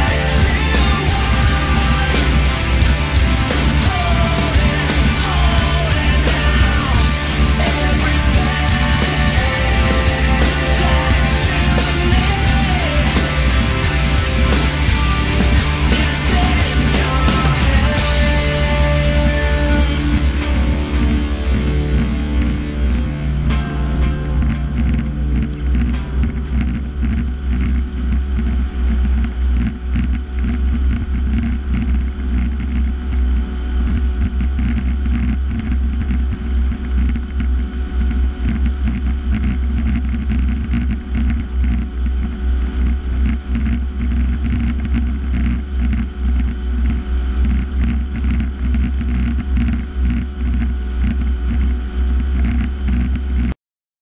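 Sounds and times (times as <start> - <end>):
tractor diesel engine droning: 0.0 - 53.6.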